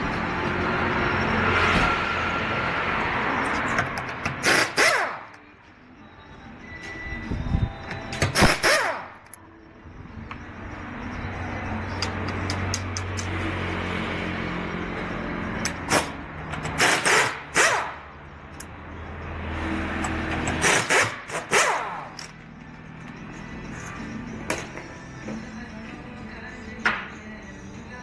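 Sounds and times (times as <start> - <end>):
car road and engine noise: 0.0 - 28.0.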